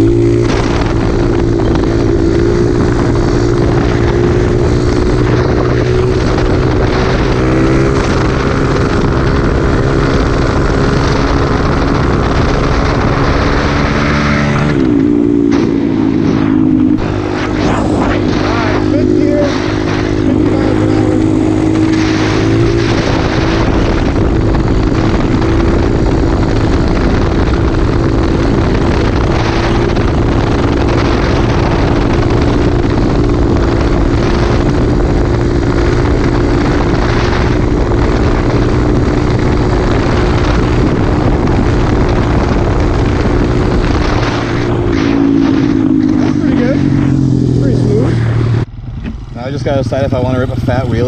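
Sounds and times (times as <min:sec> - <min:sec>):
small motorcycle engine running: 0:00.0 - 0:51.0
wind buffeting microphone: 0:00.0 - 0:51.0.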